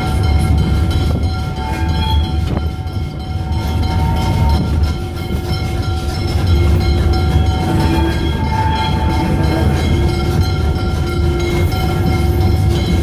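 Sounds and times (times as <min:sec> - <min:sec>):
steady tones: 0:00.0 - 0:13.0
steam train rolling rumble: 0:00.0 - 0:13.0.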